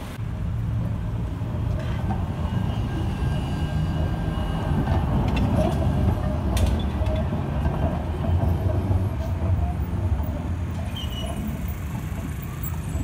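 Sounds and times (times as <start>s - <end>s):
tram rumbling past: 0.0s - 13.0s.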